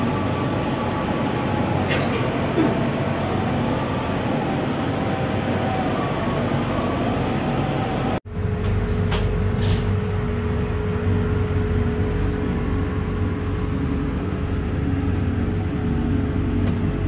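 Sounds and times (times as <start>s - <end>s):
train carriage rumbling: 0.0s - 17.0s.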